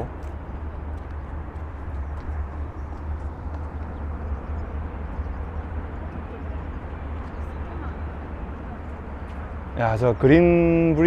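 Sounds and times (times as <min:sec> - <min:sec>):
distant city traffic hum: 0:00.0 - 0:11.0.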